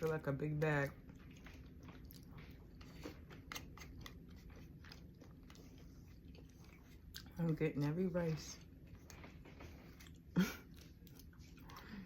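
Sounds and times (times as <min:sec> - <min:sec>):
chewing food: 0:00.0 - 0:12.0.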